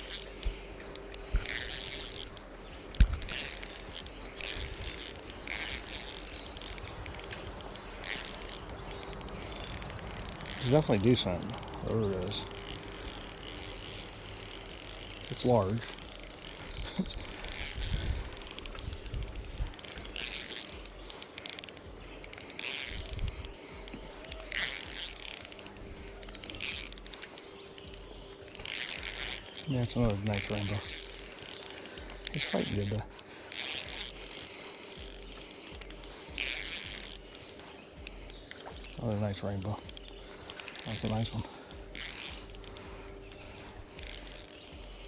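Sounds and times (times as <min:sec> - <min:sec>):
fishing reel ticking and whirring: 0:00.0 - 0:45.0.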